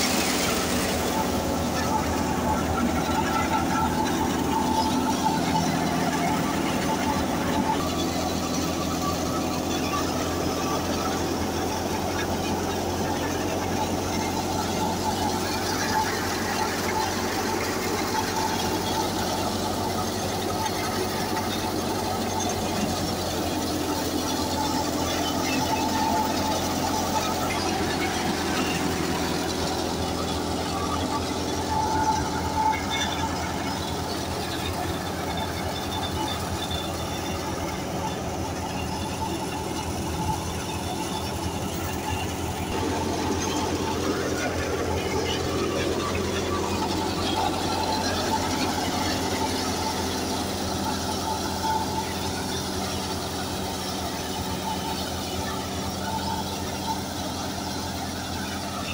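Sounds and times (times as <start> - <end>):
thresher mechanical drone: 0.0 - 58.9
tractor diesel engine hum: 0.0 - 58.9.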